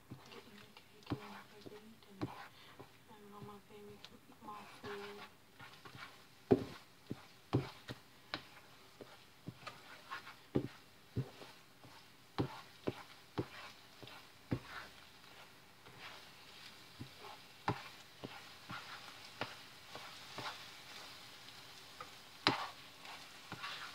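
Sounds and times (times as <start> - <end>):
spatula knocking and scraping pan: 0.0 - 21.2, 22.0 - 23.9.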